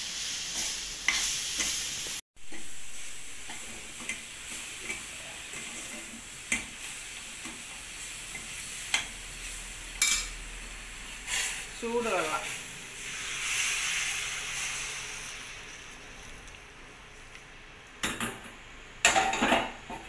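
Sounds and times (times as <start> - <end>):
food sizzling in a pan: 0.0 - 17.3.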